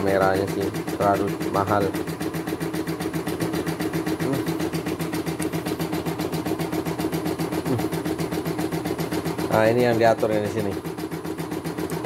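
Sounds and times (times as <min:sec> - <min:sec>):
embroidery machine needle stitching: 0:00.0 - 0:12.0
motor hum: 0:00.0 - 0:12.0.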